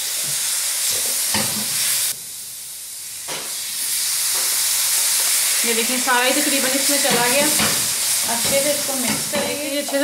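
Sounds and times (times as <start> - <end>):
syrup sizzling: 0.0 - 10.0.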